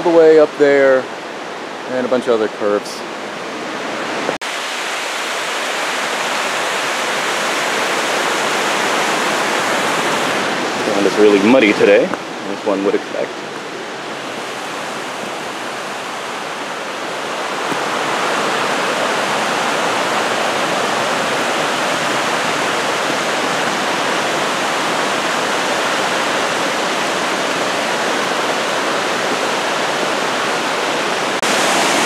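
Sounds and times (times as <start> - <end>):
creek rushing over boulders: 0.0 - 32.0.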